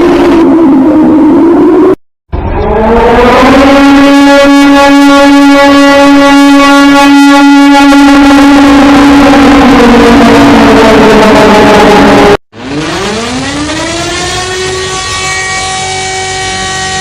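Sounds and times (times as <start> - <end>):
warning siren wailing: 0.0 - 17.0.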